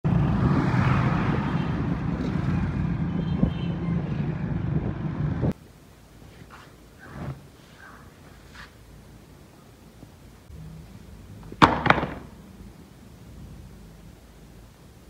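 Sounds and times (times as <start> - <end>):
street traffic engines humming: 0.0 - 6.2, 6.8 - 15.0.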